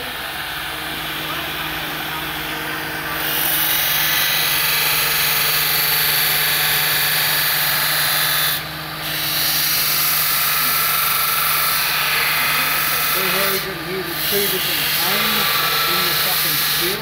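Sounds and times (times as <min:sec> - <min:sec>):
blade grinding on belt grinder: 0:00.0 - 0:17.0
motor hum: 0:00.0 - 0:17.0.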